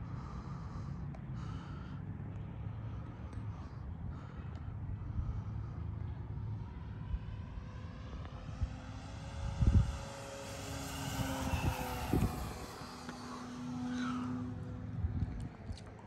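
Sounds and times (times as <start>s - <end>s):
model airplane propeller drone: 0.0s - 16.0s.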